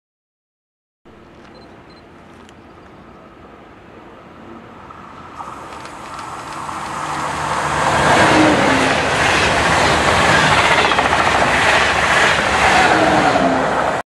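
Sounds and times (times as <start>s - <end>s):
train passing at speed: 1.4s - 14.0s.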